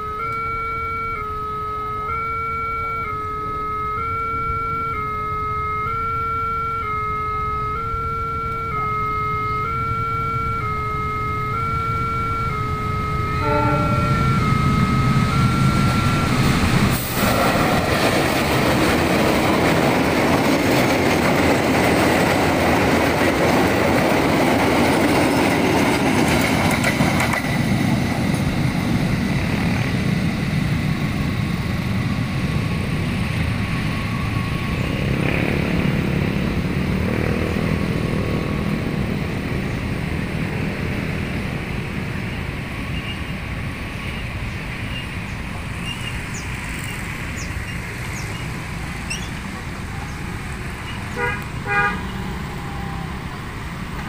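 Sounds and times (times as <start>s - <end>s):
train rumbling over rails: 1.0s - 54.0s.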